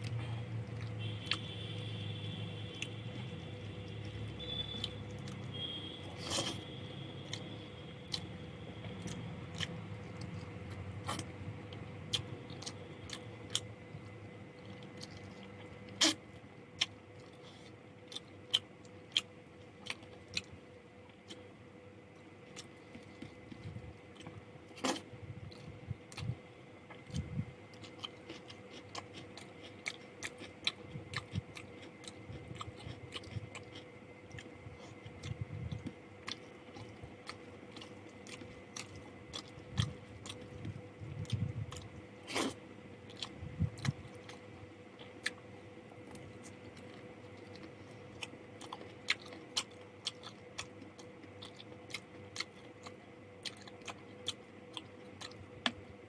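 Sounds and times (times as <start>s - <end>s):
faint steady hum: 0.0s - 56.0s
person chewing food: 2.7s - 21.5s, 22.1s - 55.8s.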